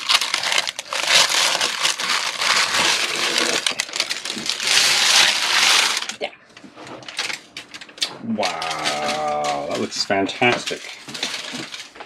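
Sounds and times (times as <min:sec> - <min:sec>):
parchment paper crinkling: 0:00.0 - 0:06.2, 0:06.9 - 0:12.0.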